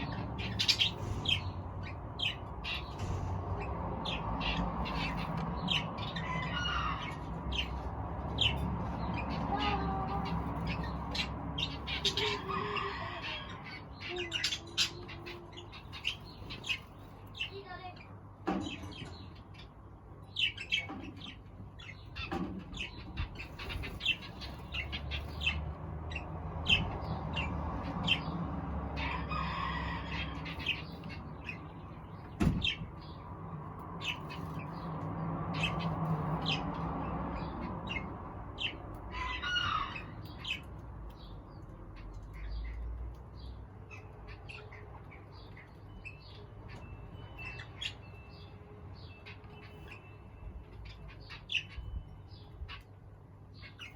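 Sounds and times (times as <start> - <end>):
birds chirping: 0.0 - 53.9
harsh bird calls: 0.0 - 53.9.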